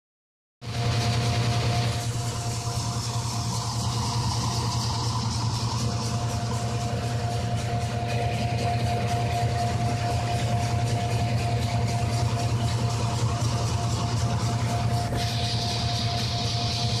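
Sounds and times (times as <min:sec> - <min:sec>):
thresher engine drone with whine: 0:00.6 - 0:17.0.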